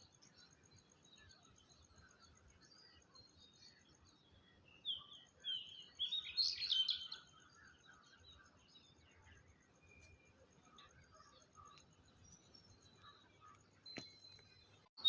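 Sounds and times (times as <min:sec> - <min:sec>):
bird chirping: 0:00.0 - 0:15.0
faint background bird chatter: 0:00.0 - 0:15.0.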